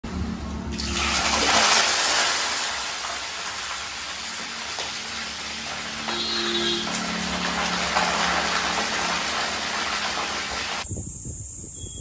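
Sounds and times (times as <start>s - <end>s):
chicken sizzling in hot oil: 0.7s - 10.8s.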